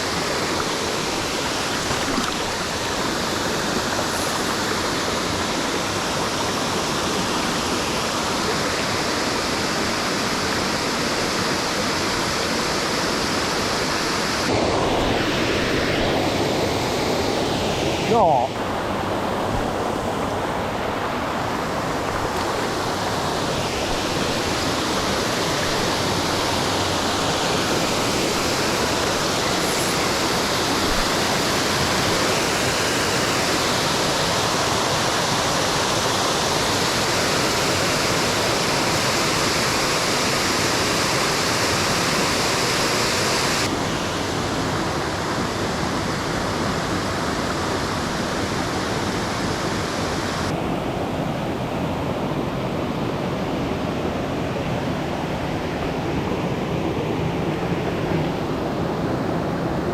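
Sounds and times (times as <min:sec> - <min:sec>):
stream rushing over rocks: 0:00.0 - 0:53.2.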